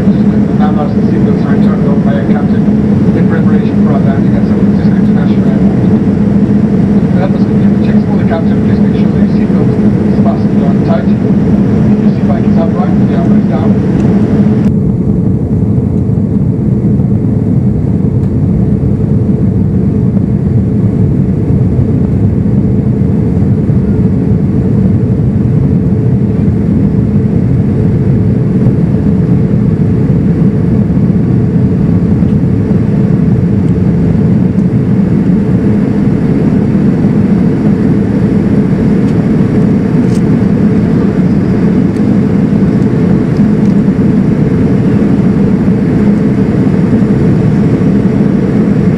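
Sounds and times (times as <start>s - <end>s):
low hum: 0.0s - 48.9s.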